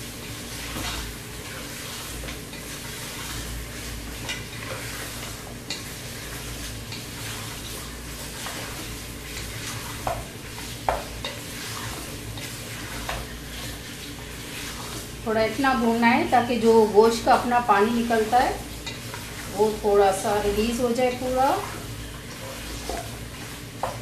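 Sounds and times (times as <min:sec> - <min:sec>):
meat sizzling in a pot: 0:00.0 - 0:24.0
wooden spoon stirring and scraping: 0:00.0 - 0:24.0.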